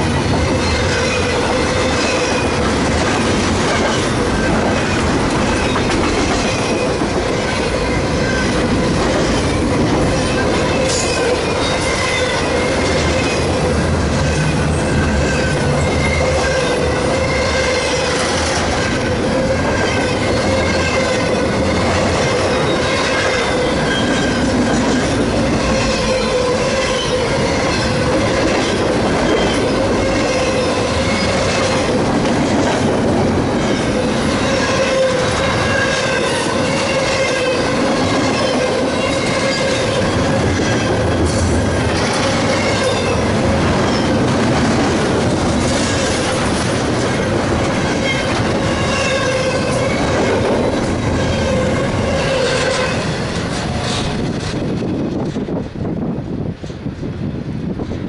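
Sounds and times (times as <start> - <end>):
wheels squealing on rails: 0.0 - 55.6
train railcars rolling past: 0.0 - 58.0.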